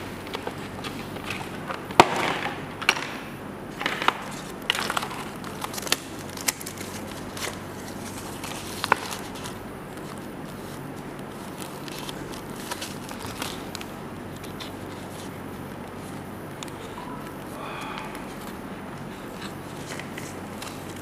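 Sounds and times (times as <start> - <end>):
cardboard and paper rustling: 0.0 - 2.6, 3.7 - 21.0.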